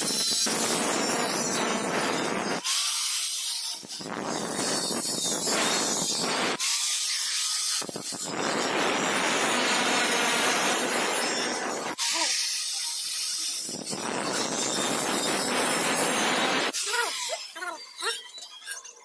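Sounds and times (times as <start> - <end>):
angle grinder cutting steel: 0.0 - 19.0.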